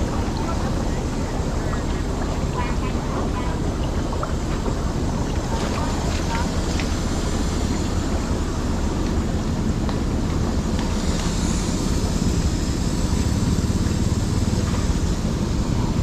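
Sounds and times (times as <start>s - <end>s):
low steady drone: 0.0s - 16.0s
water rushing and bubbling: 0.0s - 16.0s.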